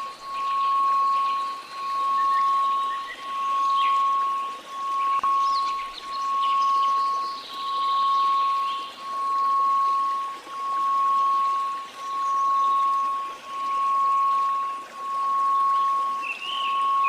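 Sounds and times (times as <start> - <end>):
pure tone: 0.0 - 17.0.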